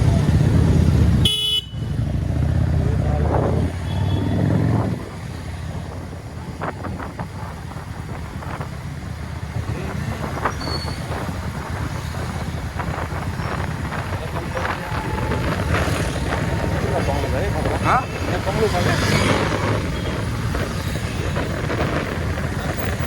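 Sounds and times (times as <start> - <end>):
motorbike road and engine noise: 0.0 - 23.0.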